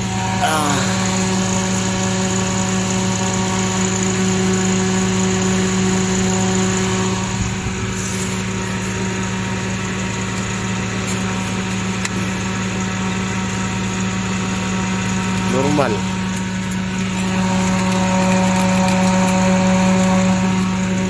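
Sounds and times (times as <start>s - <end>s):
radiator fan running: 0.0s - 21.0s
truck engine idling: 0.0s - 21.0s.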